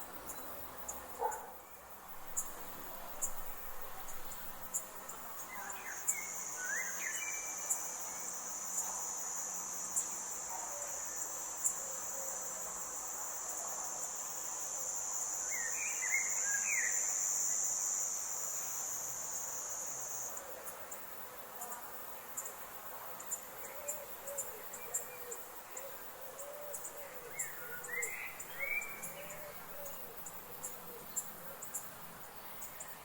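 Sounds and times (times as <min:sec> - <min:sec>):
high-pitched insect trill: 0:00.0 - 0:33.0.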